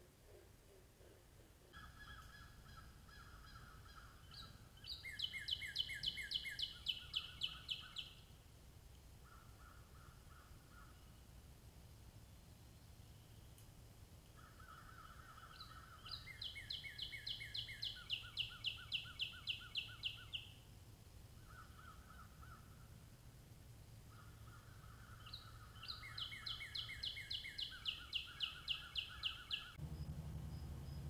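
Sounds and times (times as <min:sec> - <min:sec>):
faint low hum: 0:00.0 - 0:31.0
songbirds singing: 0:01.0 - 0:08.4, 0:12.3 - 0:31.0.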